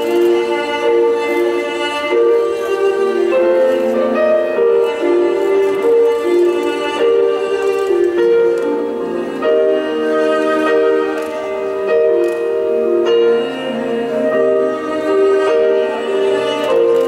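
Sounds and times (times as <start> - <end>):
instrumental music with long held notes: 0.0 - 17.0.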